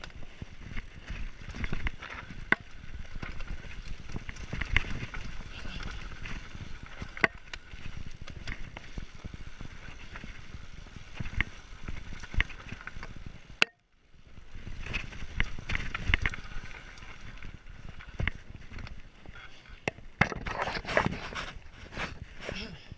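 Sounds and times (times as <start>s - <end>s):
bike rattling over stones: 0.0s - 22.8s
bike tyres crunching on gravel: 0.0s - 22.8s.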